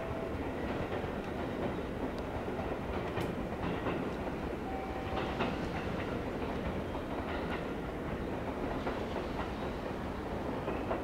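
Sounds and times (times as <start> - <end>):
electric train wheels clicking: 0.0 - 11.0.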